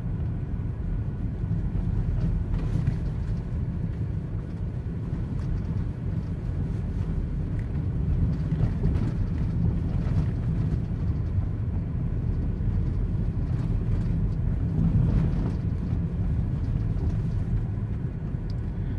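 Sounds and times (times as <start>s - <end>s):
vehicle rumble: 0.0s - 18.9s.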